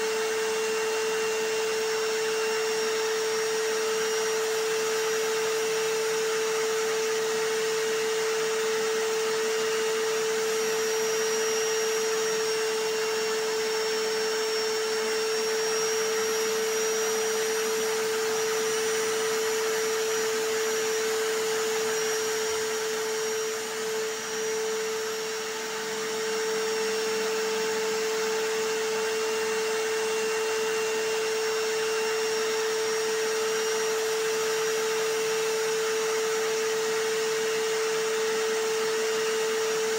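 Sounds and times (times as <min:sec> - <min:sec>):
hammer drill running: 0:00.0 - 0:39.9
vacuum cleaner running: 0:00.0 - 0:39.9.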